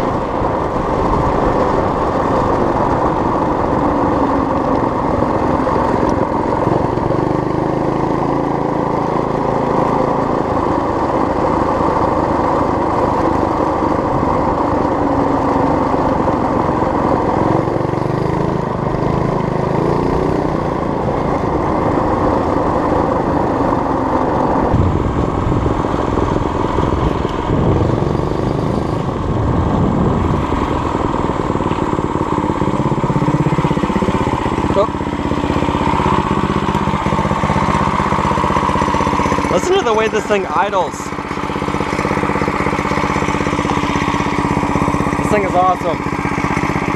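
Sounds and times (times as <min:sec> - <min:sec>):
small gasoline engine running: 0:00.0 - 0:46.9.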